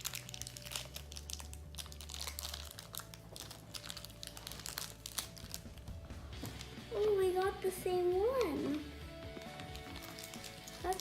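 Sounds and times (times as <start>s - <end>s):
plastic packaging crinkling: 0.0s - 7.6s, 9.3s - 11.0s.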